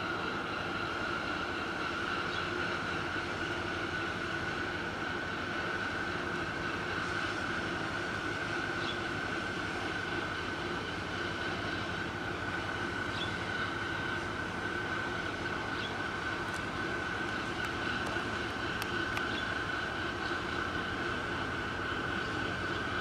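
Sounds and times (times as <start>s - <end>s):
ship engine drone with whine: 0.0s - 23.0s.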